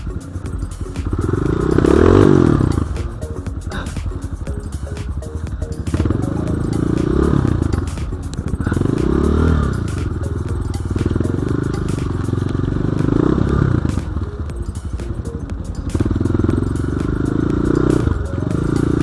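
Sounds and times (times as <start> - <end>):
dirt bike engine revving: 0.6 - 4.6, 5.8 - 14.4, 15.1 - 19.0.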